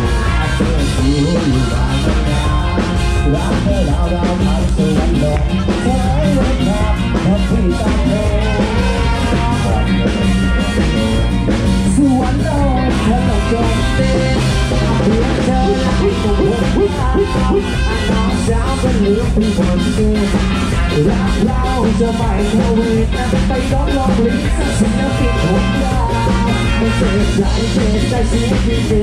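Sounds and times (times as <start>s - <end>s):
live band playing dance music: 0.0s - 29.0s.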